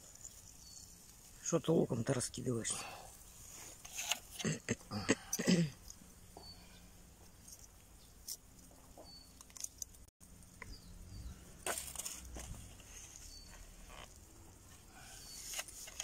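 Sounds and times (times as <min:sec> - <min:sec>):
quiet outdoor background: 0:00.0 - 0:16.0.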